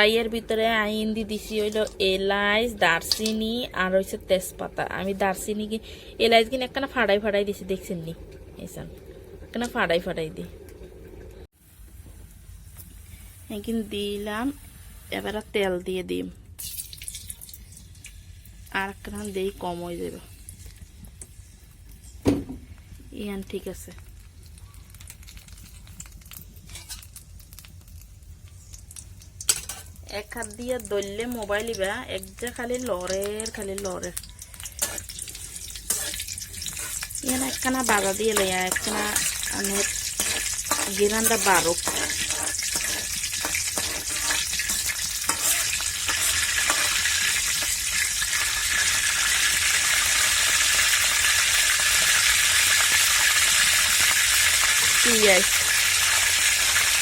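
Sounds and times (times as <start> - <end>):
spices crackling in oil: 0.0 - 15.5, 16.5 - 57.0
low steady hum: 0.0 - 48.6.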